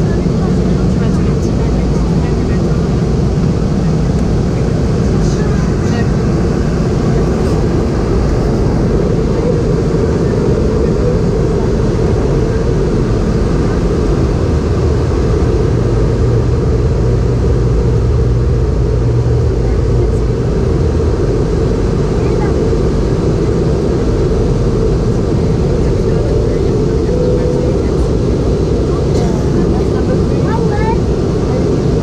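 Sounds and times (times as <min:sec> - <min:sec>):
airplane cabin noise: 0:00.0 - 0:32.0
jet engines droning: 0:00.0 - 0:32.0.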